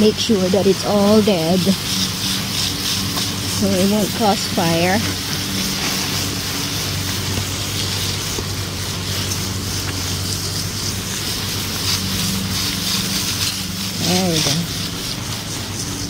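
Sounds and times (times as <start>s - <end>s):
water spraying from hose: 0.0s - 16.0s.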